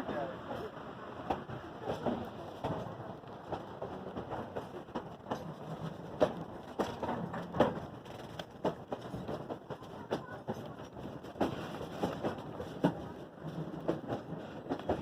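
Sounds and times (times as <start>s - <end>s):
train clanks and knocks: 0.0s - 15.0s
train rumbling: 0.0s - 15.0s.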